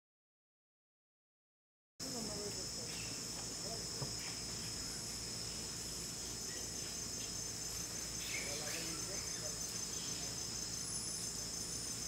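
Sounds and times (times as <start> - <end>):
insect chorus: 2.0 - 12.0.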